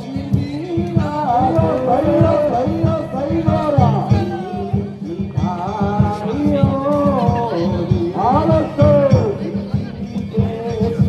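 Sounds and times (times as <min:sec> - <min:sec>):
person singing ornamented melody: 0:00.0 - 0:11.0
steady drum beat: 0:00.0 - 0:11.0.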